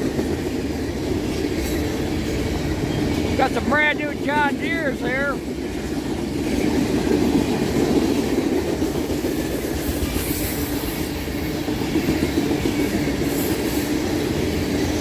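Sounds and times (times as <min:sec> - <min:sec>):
clickety-clack of rail joints: 0:00.0 - 0:15.0
freight train cars rolling past: 0:00.0 - 0:15.0.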